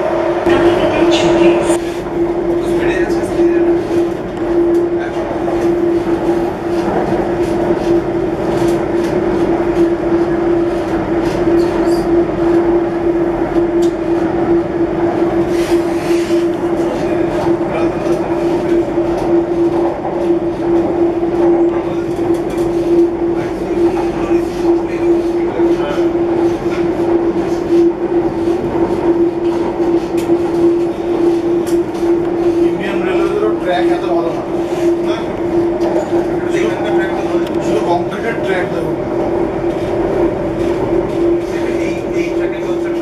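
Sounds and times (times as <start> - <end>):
train running rumble and hum: 0.0 - 43.0.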